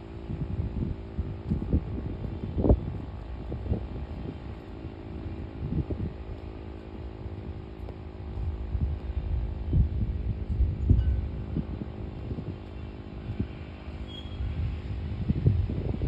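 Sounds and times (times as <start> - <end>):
siren humming low: 0.0 - 15.8
wind buffeting microphone: 0.0 - 16.0.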